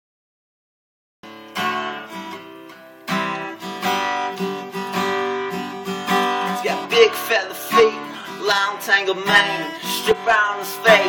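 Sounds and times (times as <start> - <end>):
acoustic guitar strumming chords: 1.2 - 11.0.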